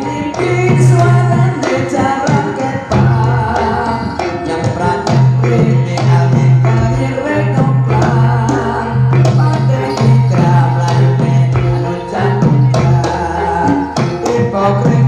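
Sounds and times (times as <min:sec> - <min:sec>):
metallophone notes: 0:00.0 - 0:15.0
person singing: 0:00.0 - 0:15.0.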